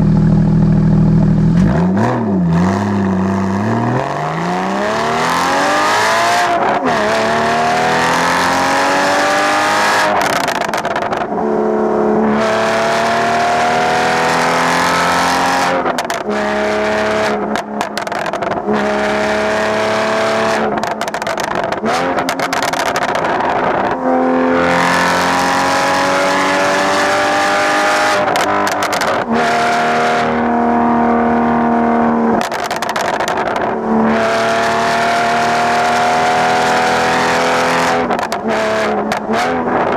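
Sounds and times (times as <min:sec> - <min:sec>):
car engine through gear changes: 0:00.0 - 0:39.9.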